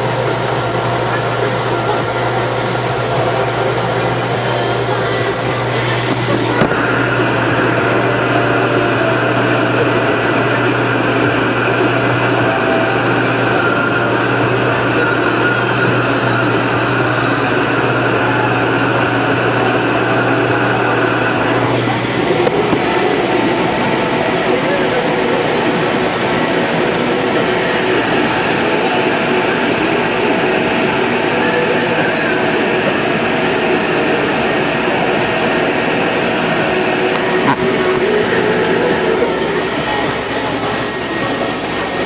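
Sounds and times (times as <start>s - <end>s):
tractor engine droning: 0.0s - 42.0s.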